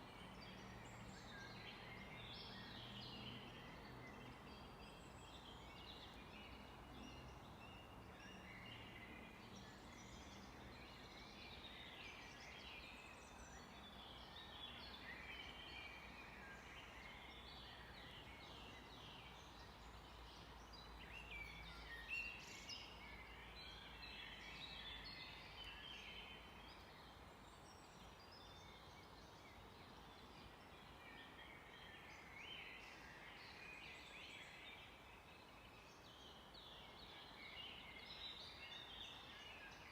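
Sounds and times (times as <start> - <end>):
low background hiss: 0.0 - 39.9
songbirds chirping and trilling: 0.0 - 39.9.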